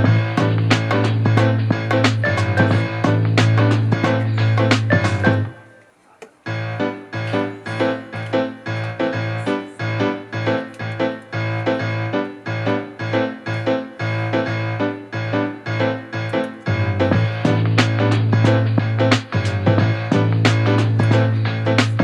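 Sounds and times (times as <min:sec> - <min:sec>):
electric piano background music: 0:00.0 - 0:22.0.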